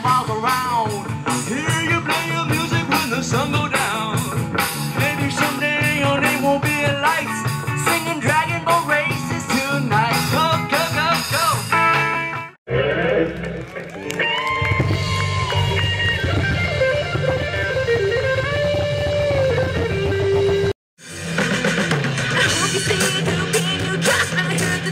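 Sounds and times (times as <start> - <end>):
sliding lead guitar line: 0.0 - 20.7
live rock band: 0.0 - 24.9.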